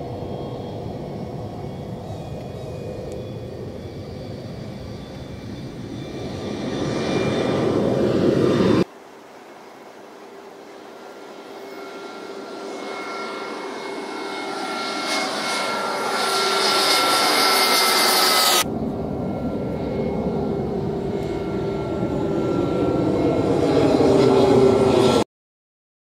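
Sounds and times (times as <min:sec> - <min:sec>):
jet airliner flying overhead: 0:00.0 - 0:25.3
jet engine whine: 0:00.0 - 0:25.3.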